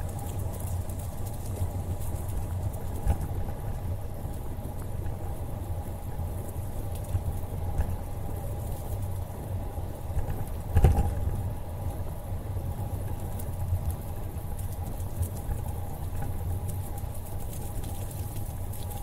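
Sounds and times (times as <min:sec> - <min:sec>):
bicycle tyre and road noise: 0:00.0 - 0:19.0
faint steady hum: 0:00.0 - 0:19.0
wind rumbling on microphone: 0:00.0 - 0:19.0.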